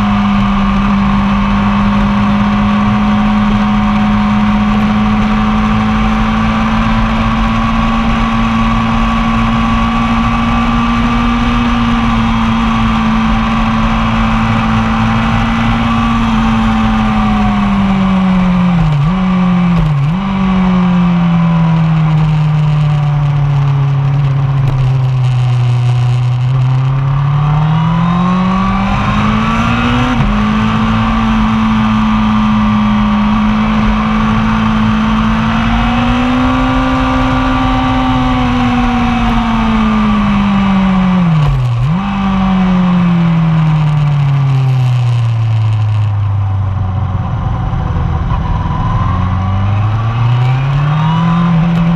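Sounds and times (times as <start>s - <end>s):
motorcycle engine running hard: 0.0s - 51.9s.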